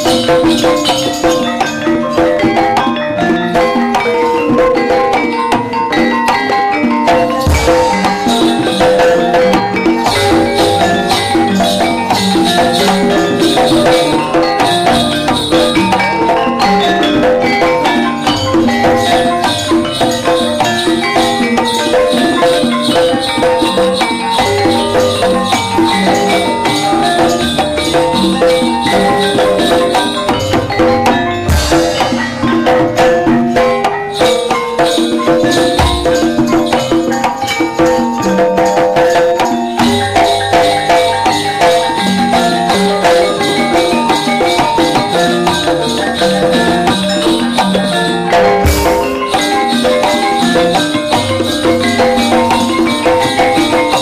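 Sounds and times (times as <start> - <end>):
metallophones ringing: 0.0 - 54.0
drum: 7.1 - 54.0.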